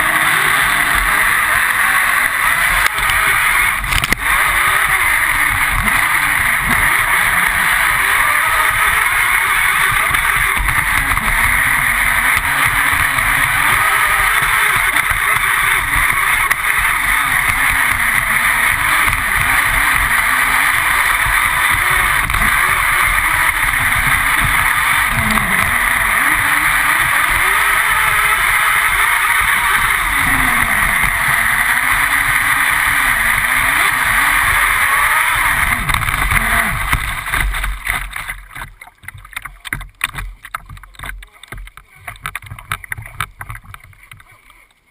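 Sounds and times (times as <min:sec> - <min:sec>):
model boat motor: 0:00.0 - 0:44.9.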